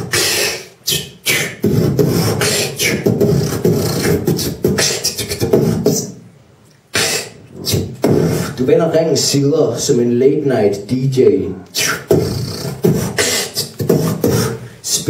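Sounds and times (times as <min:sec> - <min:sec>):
man's rhythmic vocal performance: 0:00.0 - 0:15.0.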